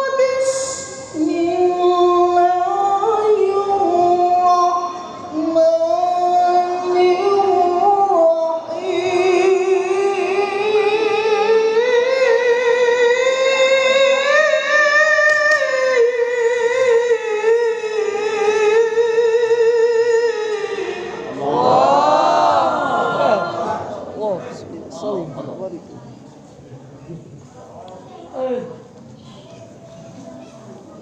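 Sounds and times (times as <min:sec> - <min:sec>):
person reciting melismatic chant: 0:00.0 - 0:25.2.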